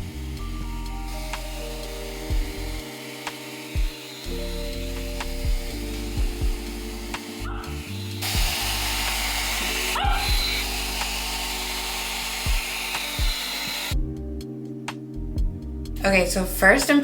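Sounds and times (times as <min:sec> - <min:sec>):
hair dryer hissing: 0:00.0 - 0:14.0
music with deep bass beats: 0:00.0 - 0:17.0.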